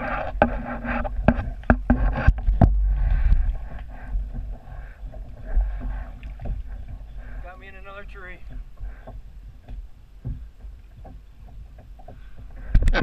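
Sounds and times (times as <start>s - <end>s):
kayak knocks and clunks: 0.0s - 13.0s
steady low rumble: 0.0s - 13.0s.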